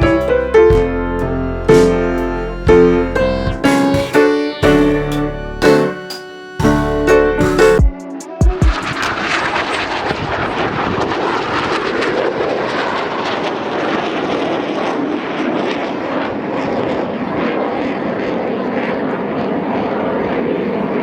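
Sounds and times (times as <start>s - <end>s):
jet engine running: 0.0s - 21.0s.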